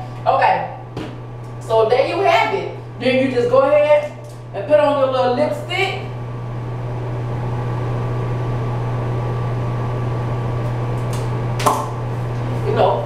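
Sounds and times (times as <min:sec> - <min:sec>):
ventilation fan humming: 0:00.0 - 0:13.0.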